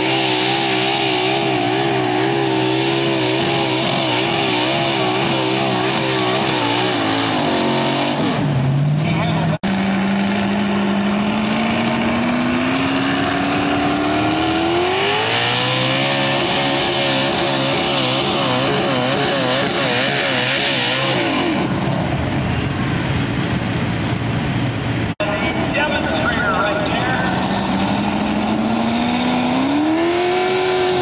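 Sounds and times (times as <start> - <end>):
tractor engine at full throttle: 0.0 - 31.0.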